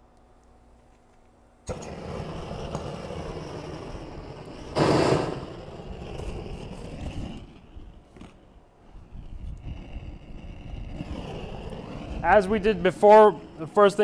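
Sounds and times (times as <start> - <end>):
torch flame rushing: 1.7 - 14.0.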